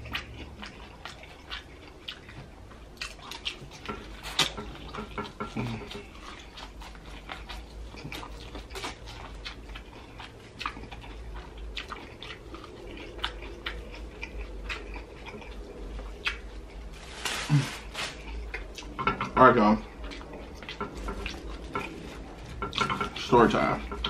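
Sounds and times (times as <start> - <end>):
biting and chewing corn: 0.0 - 24.0.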